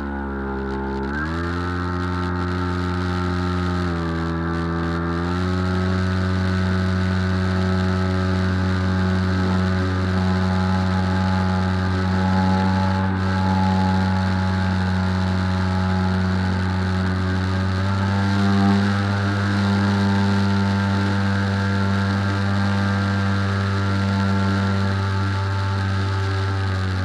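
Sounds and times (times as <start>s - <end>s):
drone motor and propeller droning: 0.0s - 27.0s.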